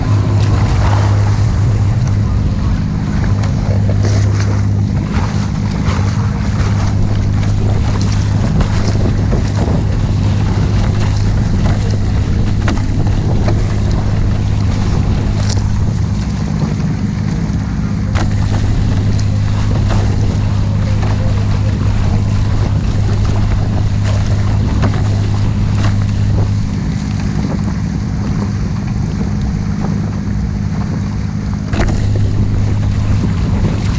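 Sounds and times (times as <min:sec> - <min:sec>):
motorboat engine droning: 0:00.0 - 0:33.9
rushing water: 0:00.0 - 0:33.9
wind on microphone: 0:00.0 - 0:33.9.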